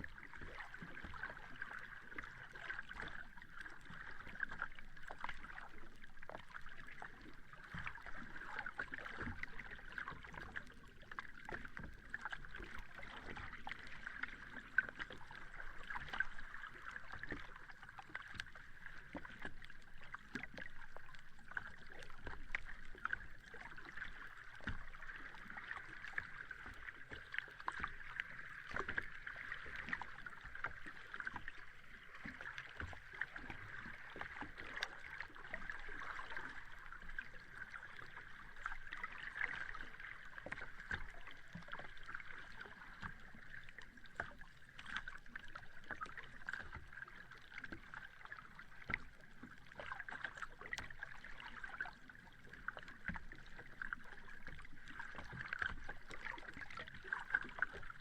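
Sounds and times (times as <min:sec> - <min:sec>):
sea water washing at shore: 0:07.0 - 0:58.0.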